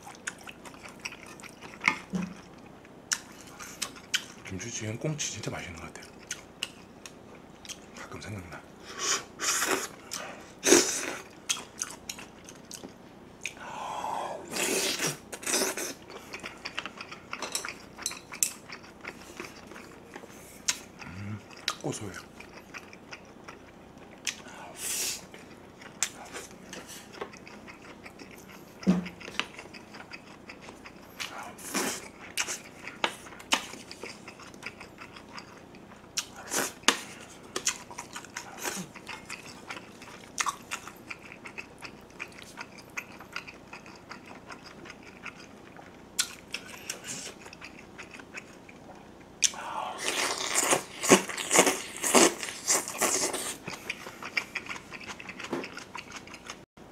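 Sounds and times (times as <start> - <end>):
chewing and lip smacks: 0.0 - 4.5, 6.0 - 8.0, 11.1 - 13.6, 15.4 - 24.5, 25.2 - 56.6.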